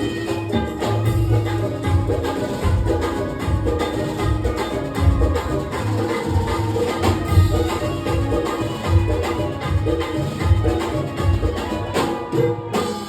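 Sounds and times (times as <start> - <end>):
folk song over sound system: 0.0 - 13.0
heavy drum beat: 0.0 - 13.0.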